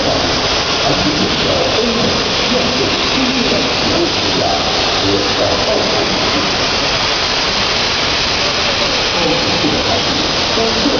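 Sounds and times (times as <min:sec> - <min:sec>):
faint voices: 0:00.0 - 0:10.9.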